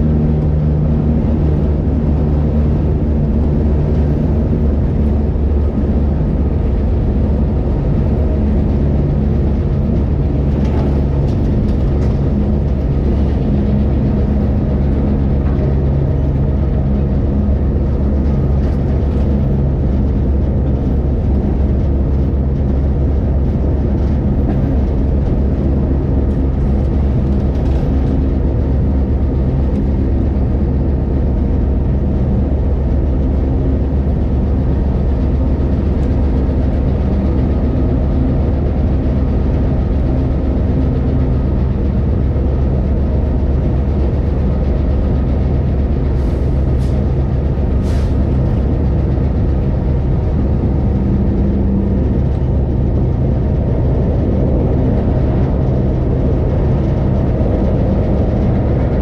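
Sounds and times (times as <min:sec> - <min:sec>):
engine hum: 0:00.0 - 0:59.0
train rumbling: 0:00.0 - 0:59.0.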